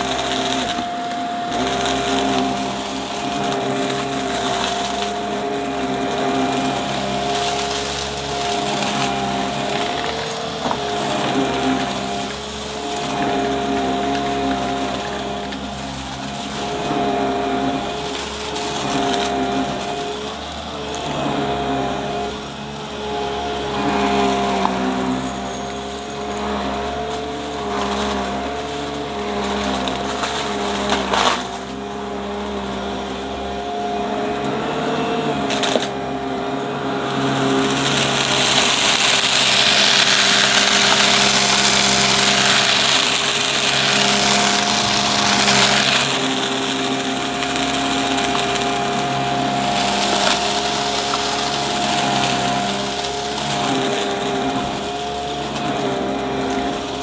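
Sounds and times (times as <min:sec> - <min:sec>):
upright vacuum cleaner whining: 0:00.0 - 0:57.0.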